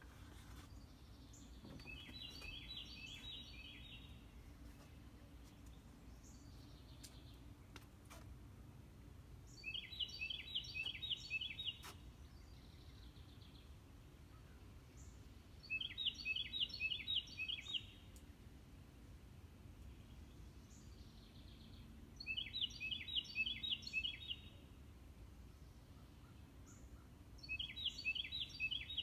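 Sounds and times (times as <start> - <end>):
low background noise: 0.0 - 29.0
songbird chirping: 0.0 - 29.0.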